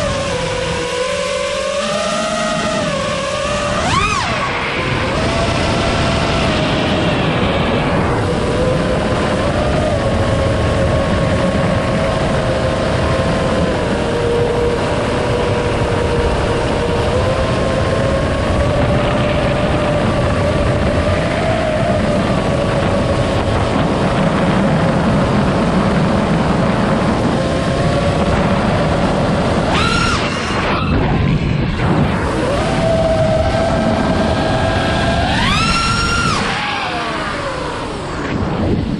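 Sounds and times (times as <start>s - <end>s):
drone motors whining: 0.0s - 38.9s
rushing wind: 0.0s - 38.9s.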